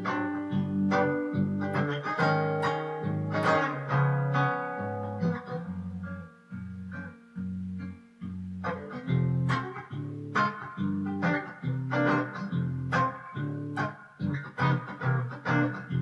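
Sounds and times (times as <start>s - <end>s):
strummed guitar: 0.0s - 16.0s.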